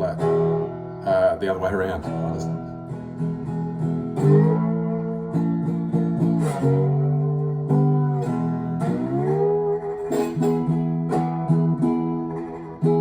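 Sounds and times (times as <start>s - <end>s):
fretless guitar notes and strums: 0.0s - 13.0s.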